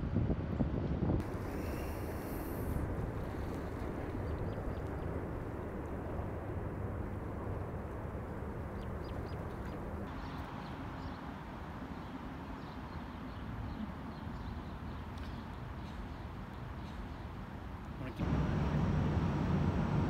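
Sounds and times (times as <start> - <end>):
distant traffic rumble: 1.2 - 20.0.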